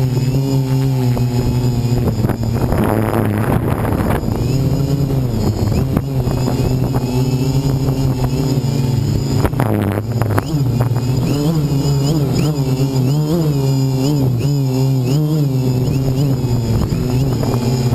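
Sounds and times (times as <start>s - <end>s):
wind noise: 0.0s - 14.4s, 15.6s - 17.9s
drone propellers humming: 0.0s - 17.9s.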